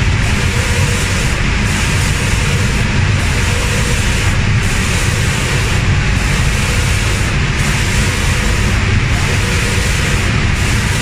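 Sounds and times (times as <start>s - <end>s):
machine low rumble: 0.0s - 11.0s
spray guns hissing: 0.0s - 11.0s.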